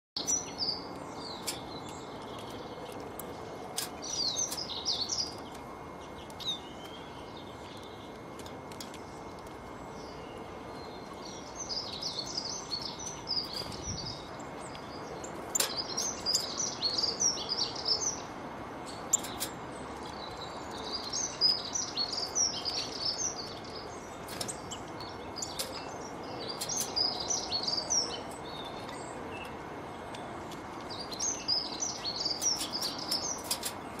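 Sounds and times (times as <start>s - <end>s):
outdoor background hiss: 0.2s - 34.0s
songbirds chirping: 0.2s - 34.0s.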